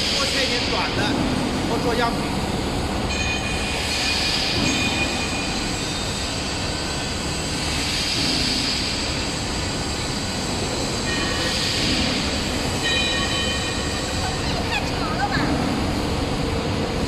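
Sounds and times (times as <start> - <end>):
roll forming machine running: 0.0 - 17.0.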